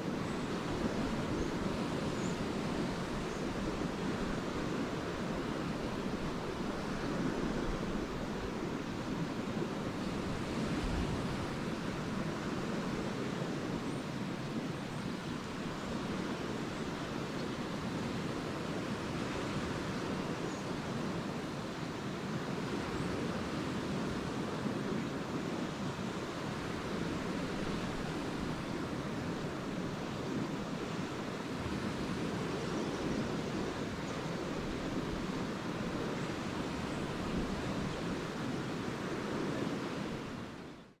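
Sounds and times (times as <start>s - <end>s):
waves washing onto sandy beach: 0.0s - 41.0s.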